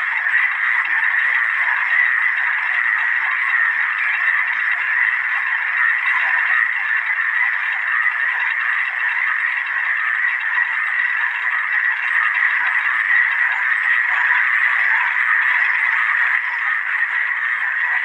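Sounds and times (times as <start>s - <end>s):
chorus of frogs croaking: 0.0s - 18.0s.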